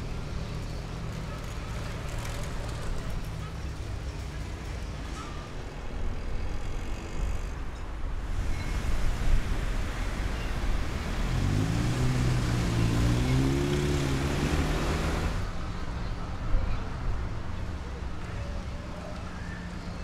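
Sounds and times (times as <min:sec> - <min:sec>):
rumble of passing vehicles: 0:00.0 - 0:20.0.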